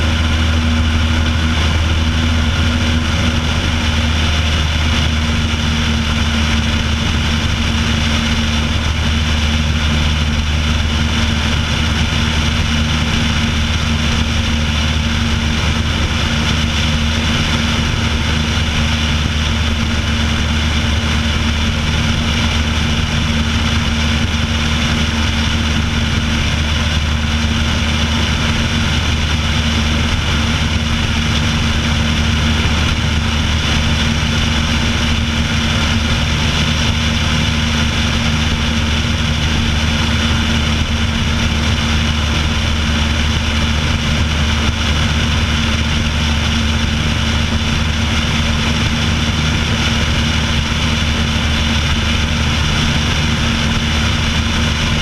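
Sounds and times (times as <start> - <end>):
plane engine and propeller droning: 0.0 - 55.0
wind noise on microphone: 0.0 - 55.0.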